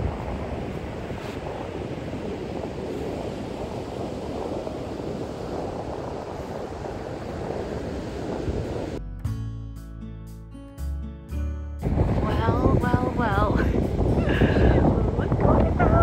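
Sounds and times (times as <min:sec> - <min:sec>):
surf rushing: 0:00.0 - 0:09.0, 0:11.8 - 0:16.0
wind buffeting microphone: 0:00.0 - 0:09.0, 0:11.8 - 0:16.0.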